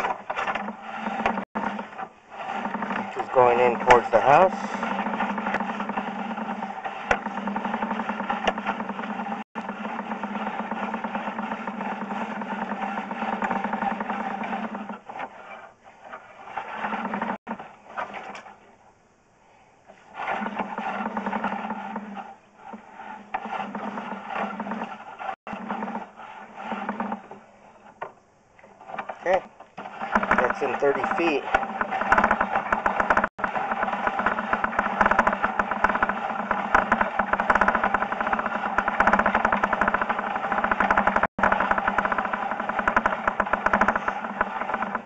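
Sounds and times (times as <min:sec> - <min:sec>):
cable rasping in pipe: 0:00.0 - 0:18.5, 0:19.9 - 0:45.0.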